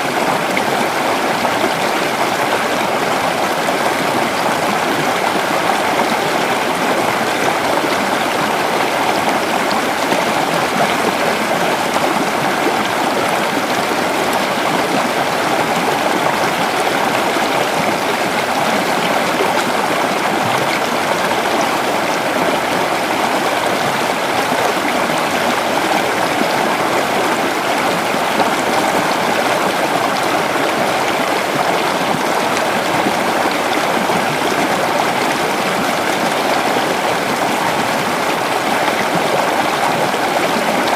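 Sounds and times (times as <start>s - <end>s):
creek water gurgling over rocks: 0.0s - 40.9s.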